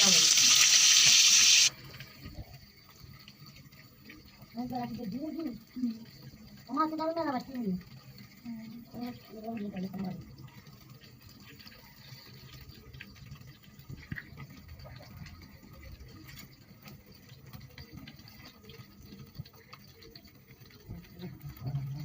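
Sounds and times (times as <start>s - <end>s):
fish cooking in a pan: 0.0s - 22.0s.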